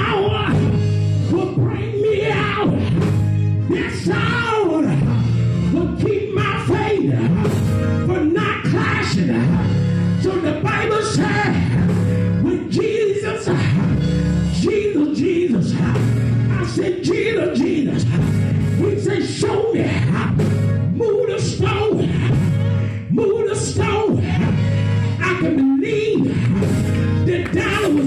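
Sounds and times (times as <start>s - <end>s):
man singing gospel: 0.0s - 28.0s.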